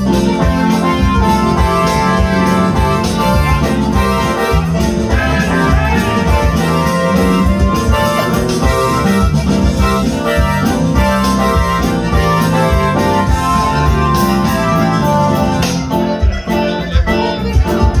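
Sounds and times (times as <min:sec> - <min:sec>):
live band playing dance music: 0:00.0 - 0:18.0.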